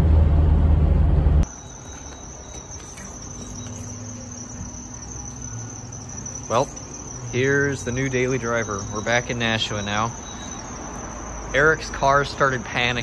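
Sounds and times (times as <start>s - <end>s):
loud in-car road and engine noise: 0.0s - 13.0s.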